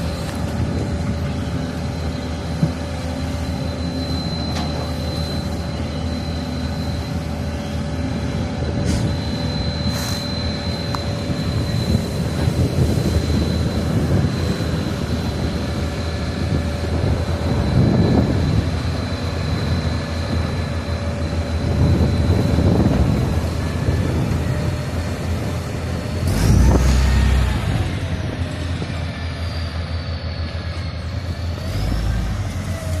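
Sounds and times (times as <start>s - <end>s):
heavy engines running: 0.0s - 33.0s.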